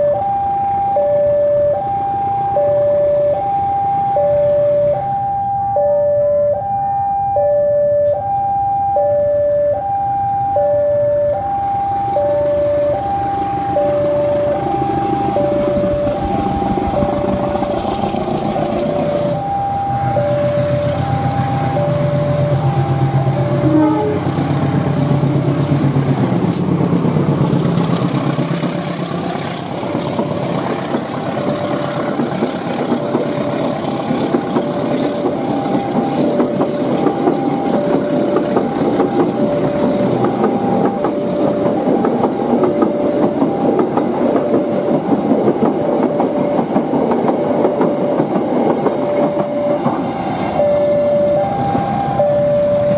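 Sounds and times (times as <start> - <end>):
two-tone level-crossing alarm: 0.0 - 24.4, 30.6 - 52.9.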